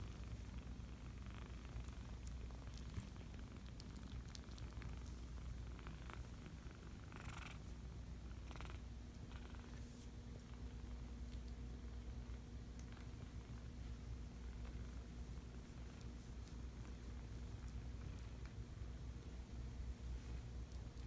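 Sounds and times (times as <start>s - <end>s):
kitten purring: 0.0s - 21.0s.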